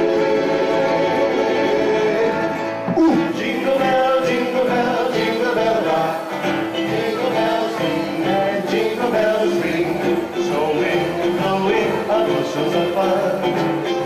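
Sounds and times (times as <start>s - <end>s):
person singing: 0.0s - 14.0s
plucked guitar: 0.0s - 14.0s.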